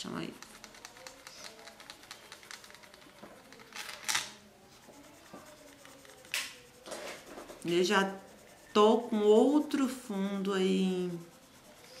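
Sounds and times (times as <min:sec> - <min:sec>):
pencil scratching on paper: 0:00.2 - 0:12.0.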